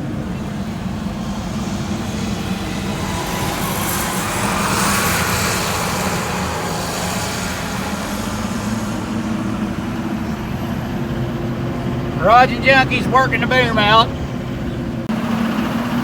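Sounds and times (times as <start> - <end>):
heavy equipment engine running: 0.0 - 16.0.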